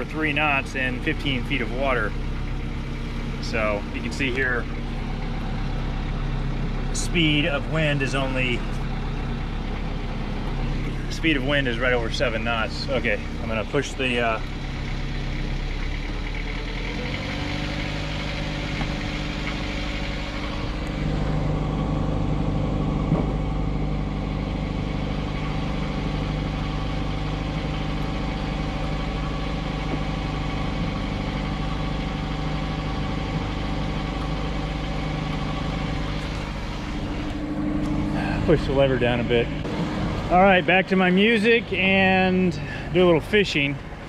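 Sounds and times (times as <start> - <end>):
diesel engine revving up: 0.0 - 44.0.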